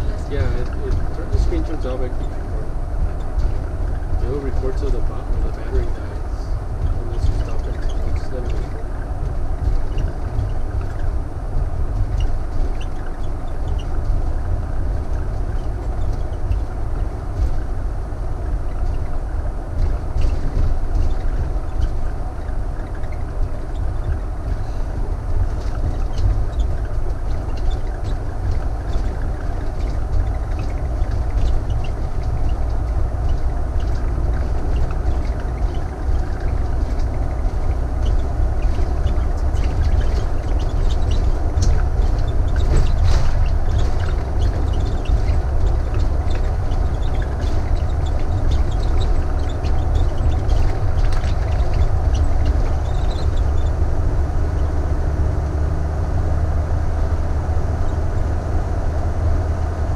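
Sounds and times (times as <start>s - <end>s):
engine and road rumble: 0.0s - 59.9s
faint ticks and rattles: 0.0s - 59.9s.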